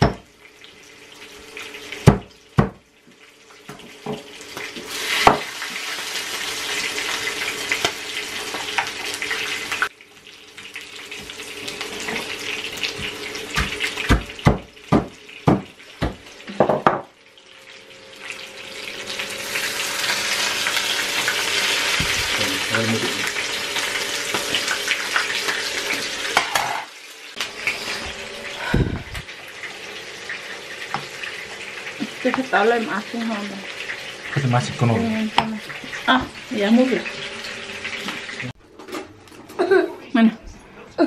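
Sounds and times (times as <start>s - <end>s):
poultry sizzling in oil: 0.0s - 38.6s.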